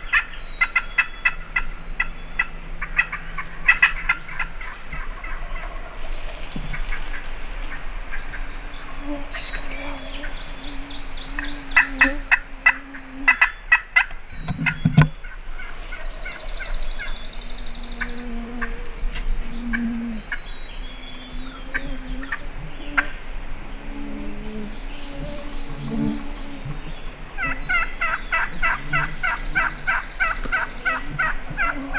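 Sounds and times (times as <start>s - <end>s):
wild turkey calling: 0.0s - 31.9s.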